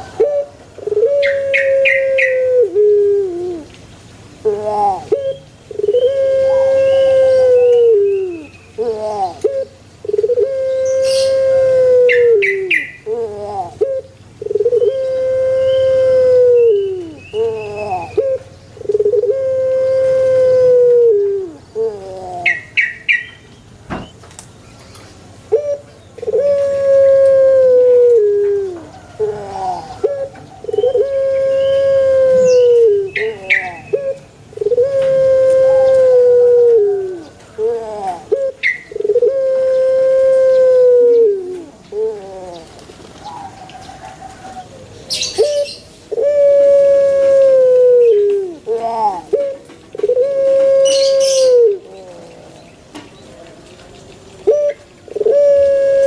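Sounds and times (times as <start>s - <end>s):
dove cooing: 0.0s - 3.8s, 4.4s - 23.3s, 25.5s - 56.0s.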